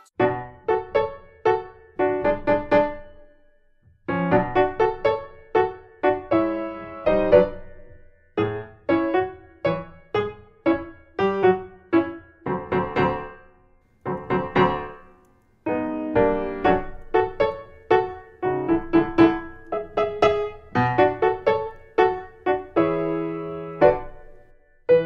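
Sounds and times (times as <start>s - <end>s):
piano melody: 0.0s - 3.2s, 4.1s - 13.4s, 14.0s - 25.0s.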